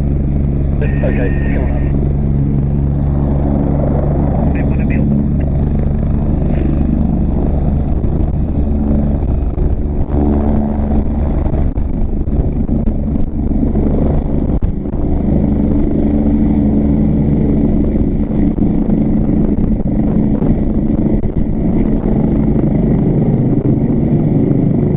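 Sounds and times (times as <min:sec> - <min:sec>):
helicopter rotor and engine: 0:00.0 - 0:24.9.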